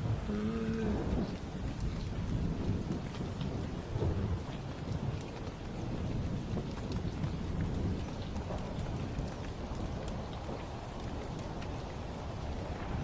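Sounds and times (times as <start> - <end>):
low rumble of thunder: 0.0 - 13.0
steady rain falling: 0.0 - 13.0.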